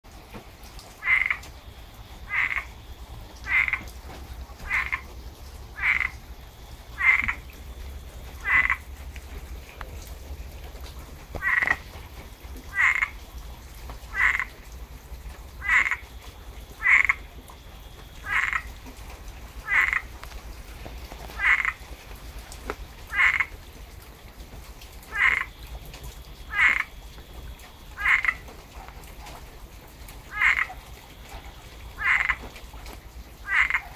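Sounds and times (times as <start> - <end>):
rain: 0.0 - 33.9
tree frog calling: 1.0 - 10.4, 11.3 - 13.5, 14.1 - 14.8, 15.5 - 23.7, 25.0 - 29.3, 30.2 - 32.7, 33.4 - 33.9.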